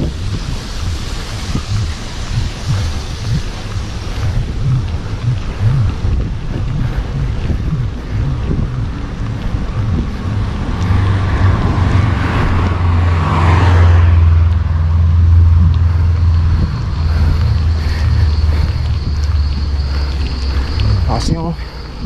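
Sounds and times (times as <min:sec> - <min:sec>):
bicycle road noise: 0:00.0 - 0:22.0
motor vehicle passing: 0:00.0 - 0:22.0
wind rushing over microphone: 0:00.0 - 0:22.0.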